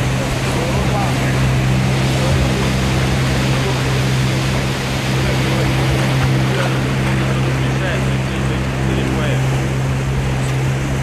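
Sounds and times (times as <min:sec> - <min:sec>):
fast river water rushing: 0:00.0 - 0:11.0
outboard motor running: 0:00.0 - 0:11.0.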